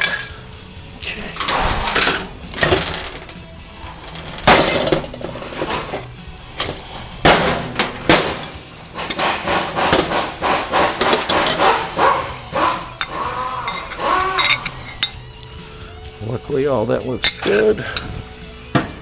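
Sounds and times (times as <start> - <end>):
metal parts clinking and knocking: 0.0 - 16.1, 17.0 - 19.0.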